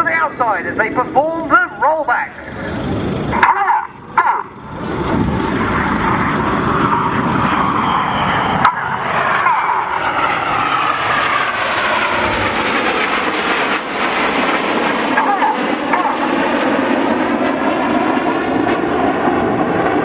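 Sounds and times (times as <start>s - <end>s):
jets flying overhead: 0.0s - 20.0s.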